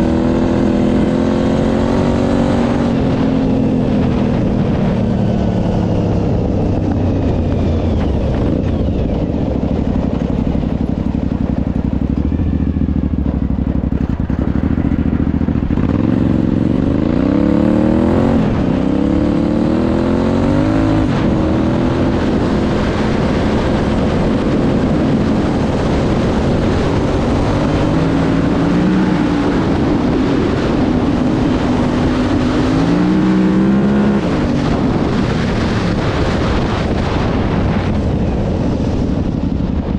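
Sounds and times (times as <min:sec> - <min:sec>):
engine revving: 0:00.0 - 0:10.9, 0:11.7 - 0:39.4.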